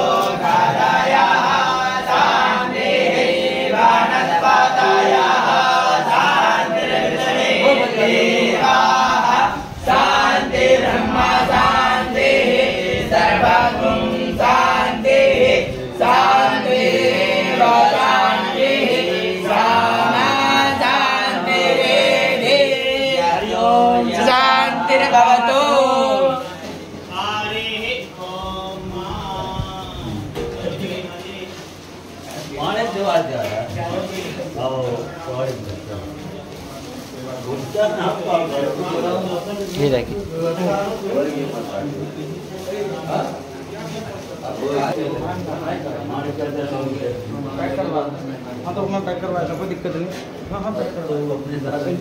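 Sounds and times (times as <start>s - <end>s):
men chanting mantras: 0.0s - 52.0s.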